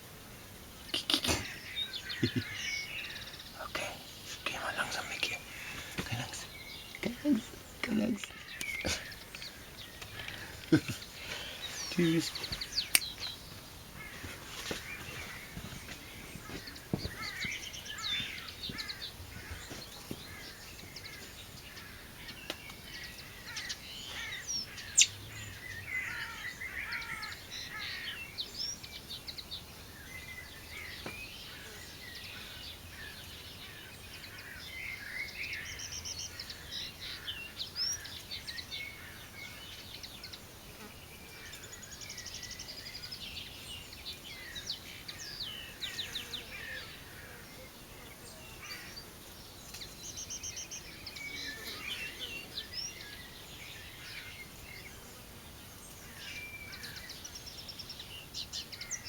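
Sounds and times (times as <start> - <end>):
birds chirping and warbling: 0.0 - 59.0.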